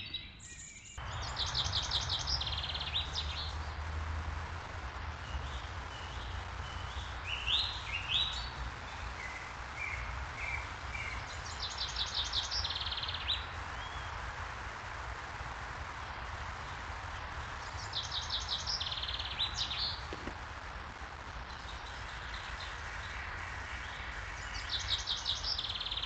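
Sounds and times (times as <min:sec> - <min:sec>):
small birds singing: 0:00.0 - 0:26.0
background hiss: 0:01.0 - 0:26.0
low rumble: 0:01.0 - 0:26.0.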